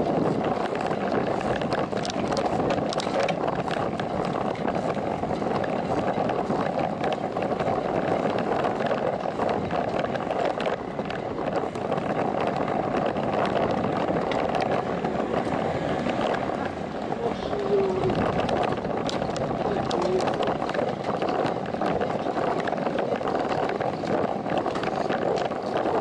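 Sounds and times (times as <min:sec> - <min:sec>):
bicycle tyres rolling on pavement: 0:00.0 - 0:26.0
small clicks and rattles: 0:00.0 - 0:26.0
wind noise on microphone: 0:00.0 - 0:26.0.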